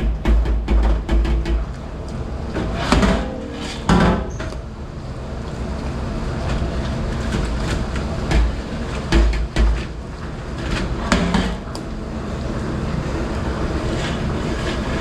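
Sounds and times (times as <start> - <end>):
steady running noise: 0.0 - 15.0.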